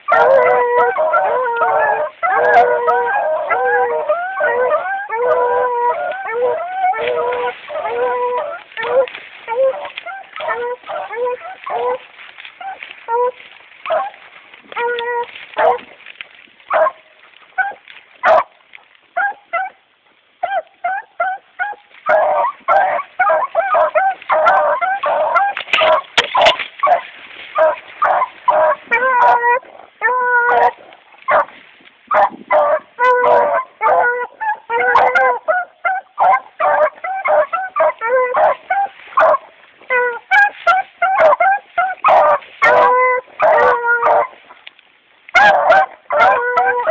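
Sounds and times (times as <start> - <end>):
hounds baying and yelping: 0.0 - 44.7, 45.3 - 46.9.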